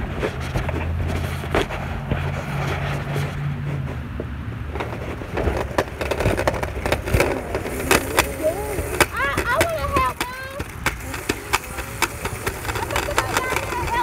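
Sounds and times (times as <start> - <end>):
scooter wheels rolling on pavement: 0.0 - 14.0.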